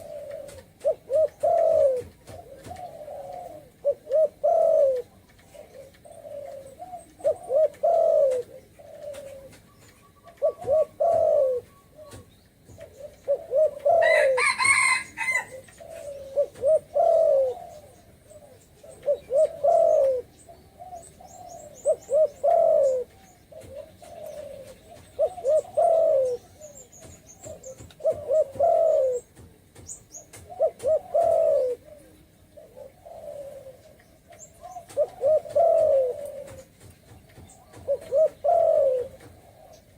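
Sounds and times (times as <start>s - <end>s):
dove cooing: 0.0s - 29.4s, 30.3s - 36.8s, 37.4s - 39.9s.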